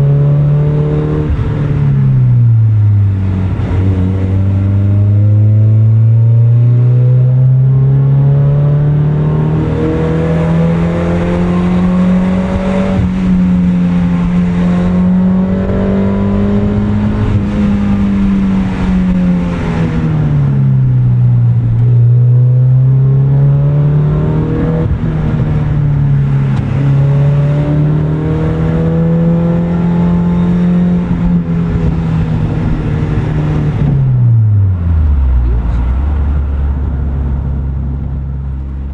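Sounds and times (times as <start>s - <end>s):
car engine and exhaust under way: 0.0s - 38.9s.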